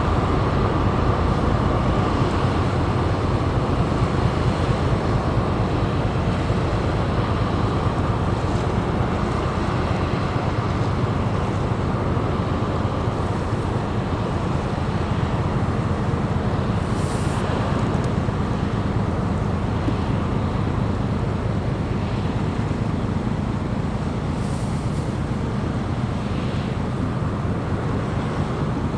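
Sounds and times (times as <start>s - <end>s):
ship engines droning: 0.0s - 28.9s.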